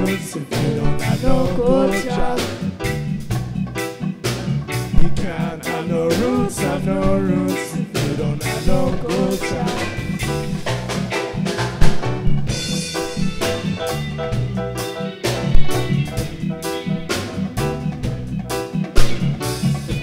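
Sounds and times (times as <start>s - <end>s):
bass guitar: 0.0s - 20.0s
drum kit steady beat: 0.0s - 20.0s
electric guitar: 0.0s - 20.0s.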